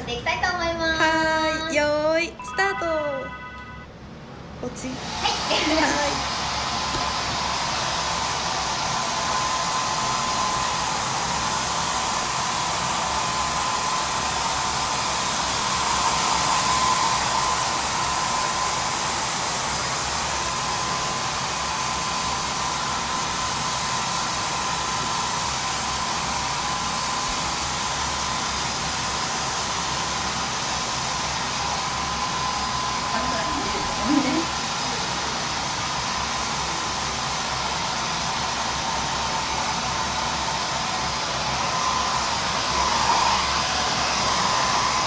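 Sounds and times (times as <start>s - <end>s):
hair dryer rushing with whine: 4.5s - 45.0s.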